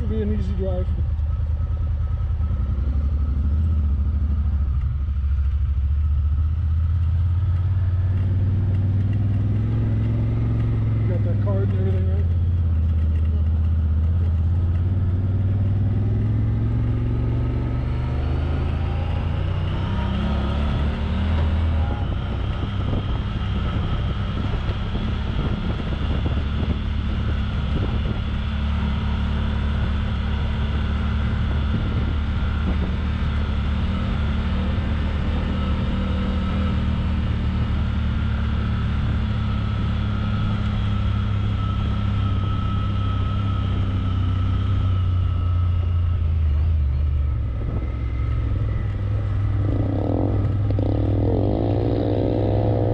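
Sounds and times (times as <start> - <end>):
off-road vehicle engine accelerating: 0.0 - 52.9.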